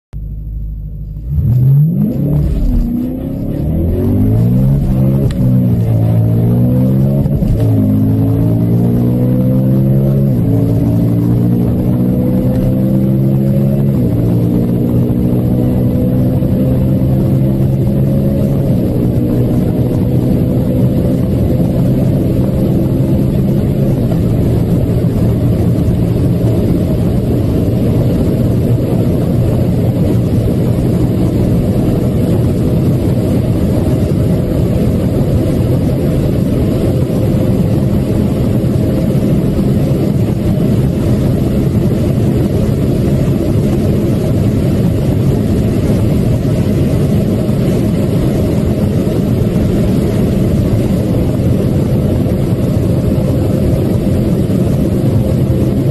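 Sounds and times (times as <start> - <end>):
car engine drone at high revs: 0.1 - 55.9
wind and road noise: 0.2 - 55.9.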